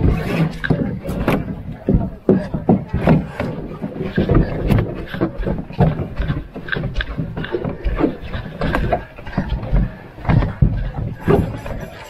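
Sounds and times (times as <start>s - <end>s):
footsteps on dirt trail: 0.0s - 12.0s
gear knocking against canoe hull: 0.0s - 12.0s.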